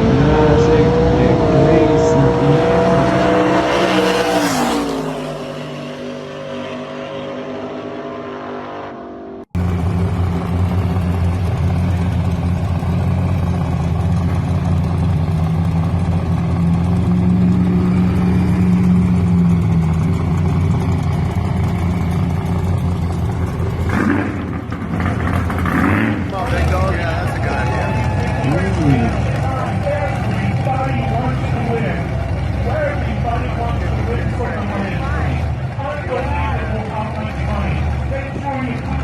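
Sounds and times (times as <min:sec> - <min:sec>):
deep heavy engine: 0:00.0 - 0:39.0
loud car engine running: 0:00.0 - 0:39.0.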